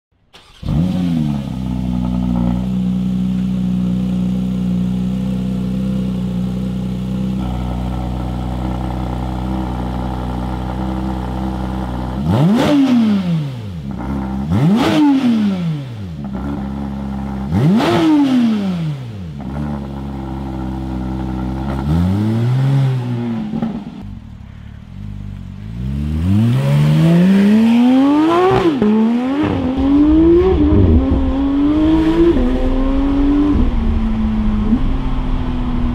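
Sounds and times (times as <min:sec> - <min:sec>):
car pulling away accelerating: 0:00.3 - 0:35.9
sports car engine revving: 0:00.4 - 0:35.9.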